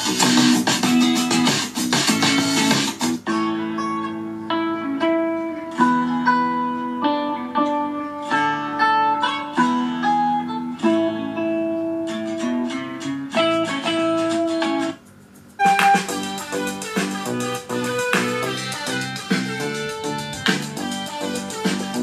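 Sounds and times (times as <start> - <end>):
guitar instrumental music on speaker: 0.0 - 22.0.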